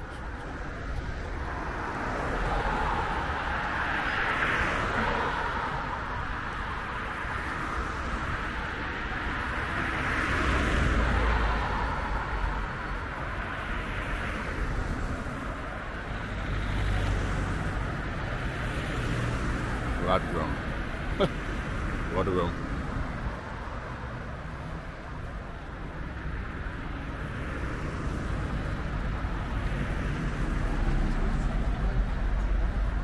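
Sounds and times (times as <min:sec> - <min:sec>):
cars passing on road: 0:00.0 - 0:33.0.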